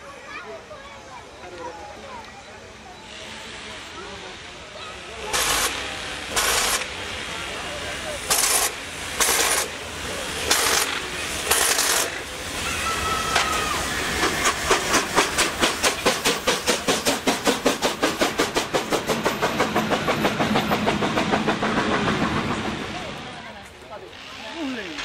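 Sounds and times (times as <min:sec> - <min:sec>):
steam locomotive exhaust beats: 0:03.2 - 0:25.0.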